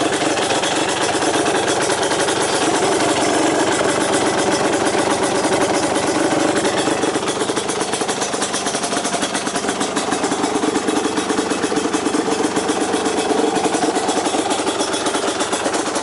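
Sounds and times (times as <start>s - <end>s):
two-stroke engine idling: 0.0s - 16.0s.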